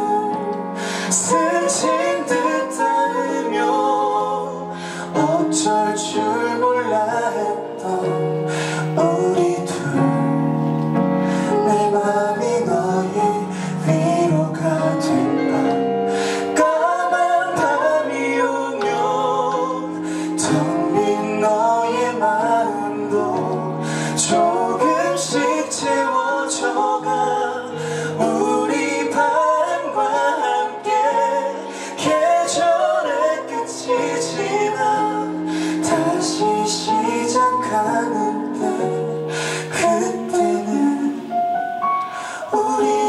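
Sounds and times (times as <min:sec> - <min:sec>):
woman and man singing duet: 0:00.0 - 0:10.2, 0:11.3 - 0:41.5, 0:42.1 - 0:43.0.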